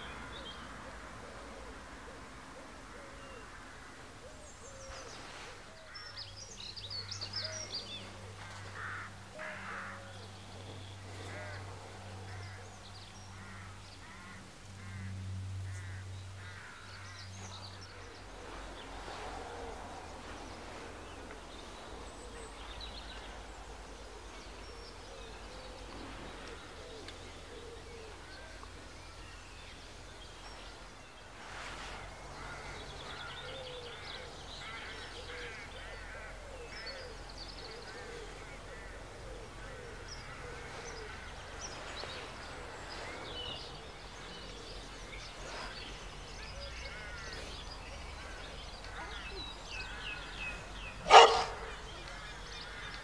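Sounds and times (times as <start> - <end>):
small birds singing and chirping: 4.1 - 53.0.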